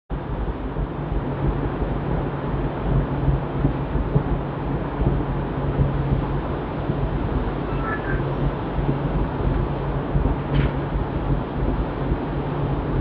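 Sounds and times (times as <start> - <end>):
boat engine humming: 0.1 - 13.0
wind on microphone: 0.1 - 13.0.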